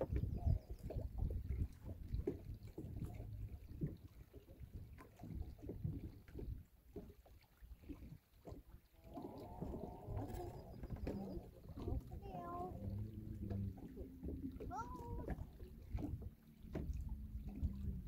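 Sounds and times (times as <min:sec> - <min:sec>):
wind buffeting microphone: 0:00.0 - 0:07.1, 0:09.1 - 0:18.0
waves lapping against boat hull: 0:00.0 - 0:18.0.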